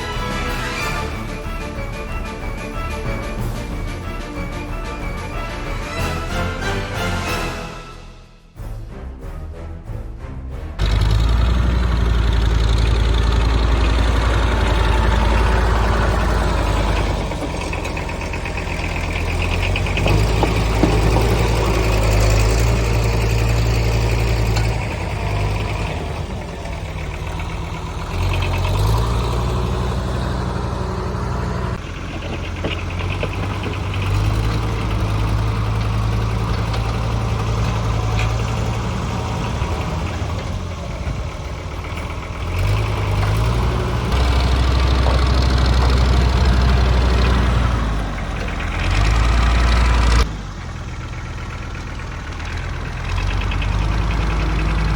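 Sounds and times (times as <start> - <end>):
tractor diesel engine running: 0.0 - 7.3, 10.8 - 54.9.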